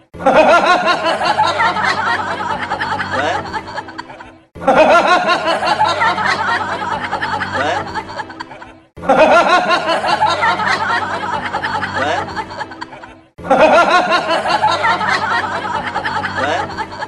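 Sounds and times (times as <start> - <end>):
laugh track people laughing: 0.0 - 17.0.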